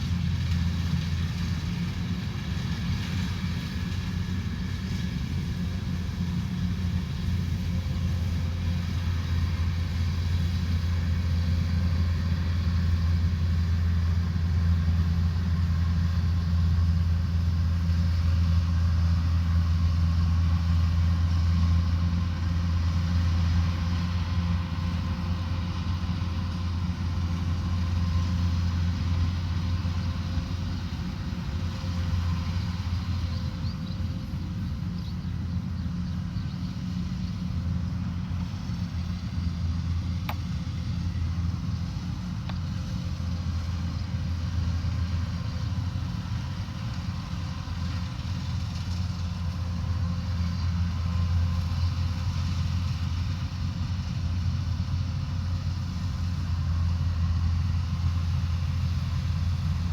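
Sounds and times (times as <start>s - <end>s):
harvester engine droning: 0.0s - 59.9s.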